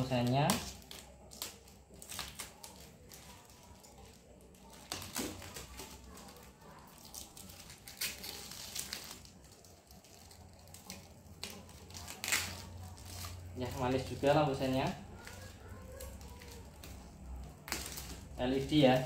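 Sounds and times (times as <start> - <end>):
packaging wrap crinkling and tearing: 0.0 - 19.0.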